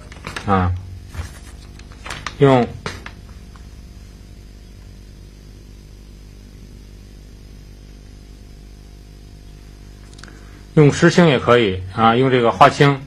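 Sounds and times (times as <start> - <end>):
even hiss: 0.0 - 13.0
low electrical hum: 0.0 - 13.0.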